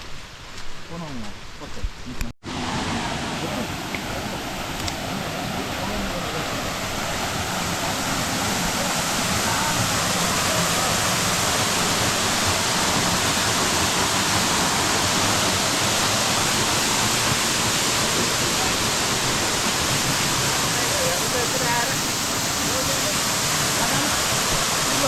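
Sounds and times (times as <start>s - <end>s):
waterfall roar: 2.5s - 25.0s.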